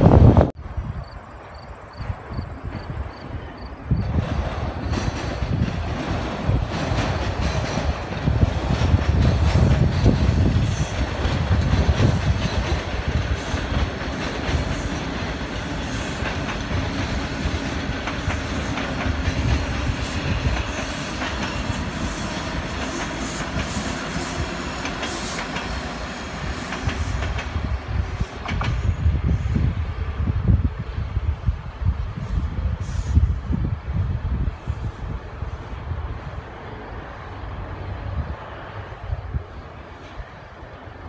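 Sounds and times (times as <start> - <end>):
subway train rumble: 0.0 - 41.0.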